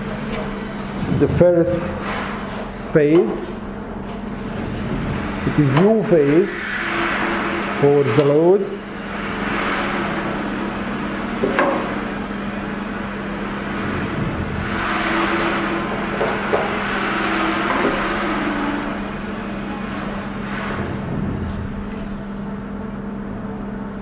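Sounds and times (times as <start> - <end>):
background hum and hiss: 0.0 - 24.0.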